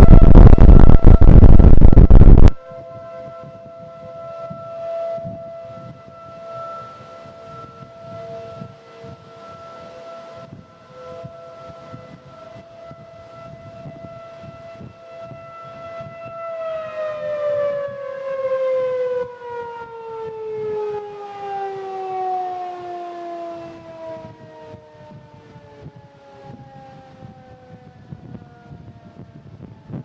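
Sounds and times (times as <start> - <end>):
civil defense siren: 0.0 - 30.0.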